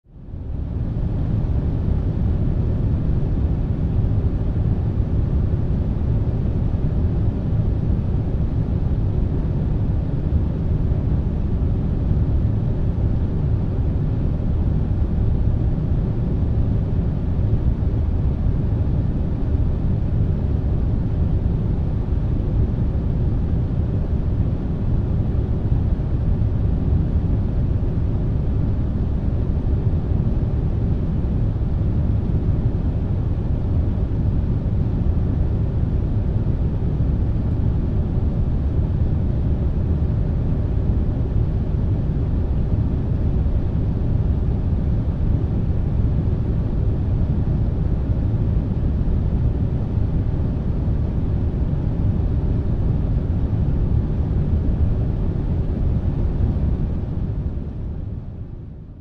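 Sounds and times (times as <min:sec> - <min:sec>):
air conditioner running: 0:00.0 - 0:59.0.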